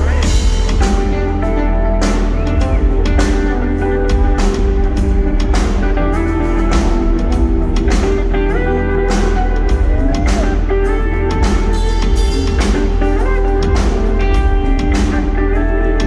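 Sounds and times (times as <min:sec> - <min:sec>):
drum beat with cymbals: 0:00.0 - 0:16.0
heavy bass: 0:00.0 - 0:16.0
lead guitar with bent notes: 0:00.0 - 0:16.0.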